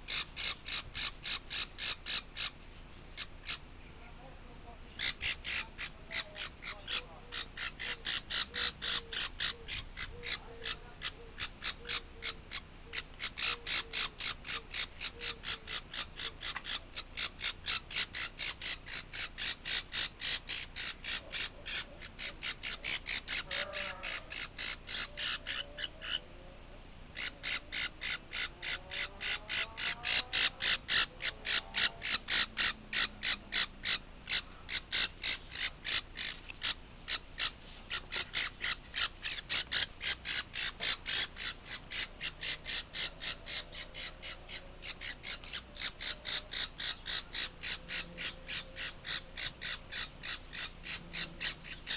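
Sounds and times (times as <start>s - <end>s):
parrot chick cheeping: 0.0s - 2.6s, 5.0s - 26.2s, 27.2s - 51.9s.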